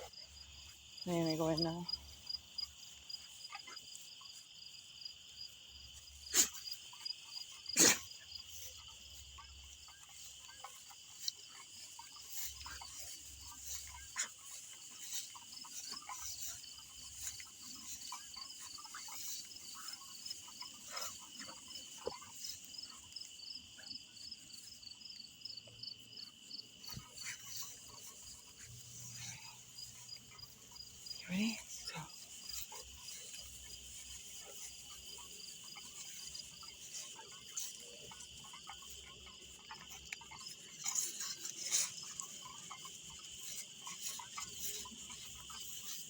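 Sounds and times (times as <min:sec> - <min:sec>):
faint ticks and rustles: 0:00.0 - 0:46.0
insects chirping rhythmically: 0:00.0 - 0:46.0
insects droning: 0:00.0 - 0:46.0.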